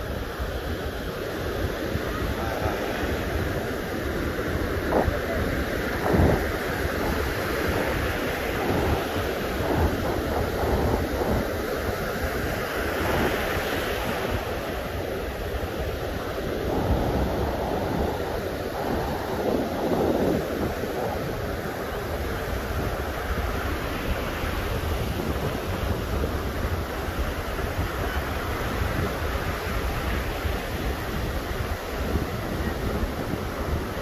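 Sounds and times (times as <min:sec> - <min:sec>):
small ocean waves breaking: 0:00.0 - 0:34.0
wind rumble on microphone: 0:00.0 - 0:34.0.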